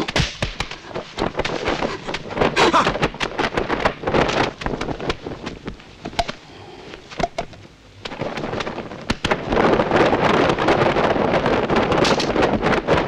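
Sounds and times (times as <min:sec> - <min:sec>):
loud continuous rushing noise: 0:00.0 - 0:13.0.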